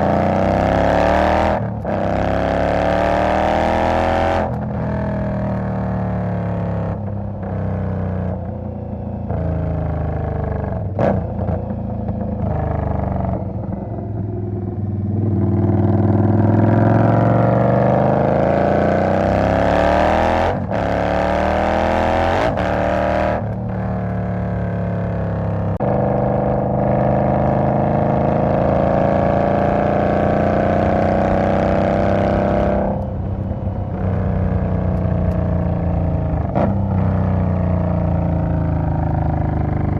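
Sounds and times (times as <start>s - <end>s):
motorcycle engine revving under load: 0.0s - 39.9s.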